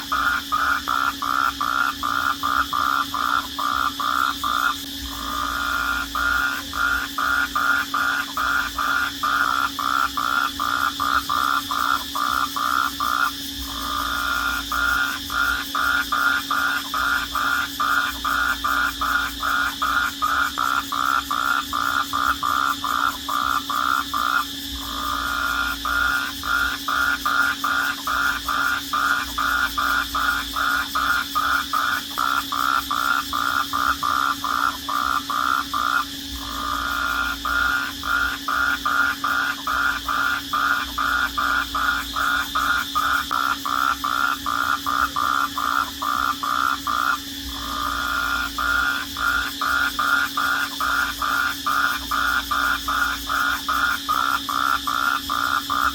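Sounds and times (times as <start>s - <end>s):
animals calling in pulses: 0.0s - 55.9s.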